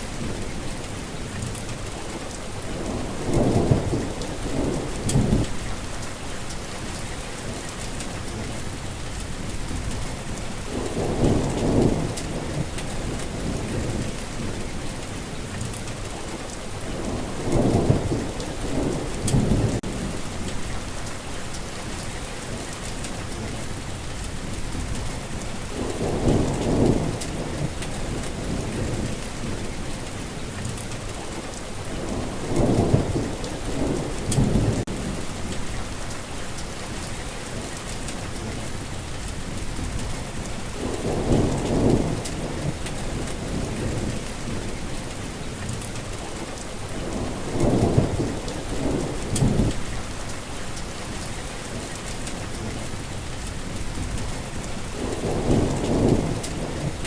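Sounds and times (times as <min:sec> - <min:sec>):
heavy rain falling: 0:00.0 - 0:57.0
thunder rumbling: 0:01.4 - 0:08.6, 0:09.3 - 0:57.0.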